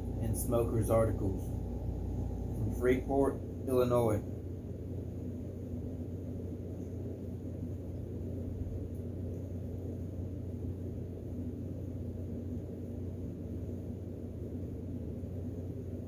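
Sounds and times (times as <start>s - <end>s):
room hum and rumble: 0.0s - 16.0s.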